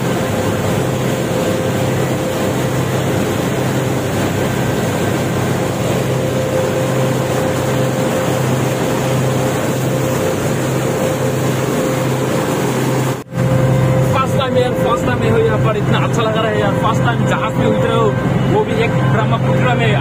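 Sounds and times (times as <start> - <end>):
ferry engine humming: 0.0 - 20.0
water rushing along hull: 0.0 - 20.0.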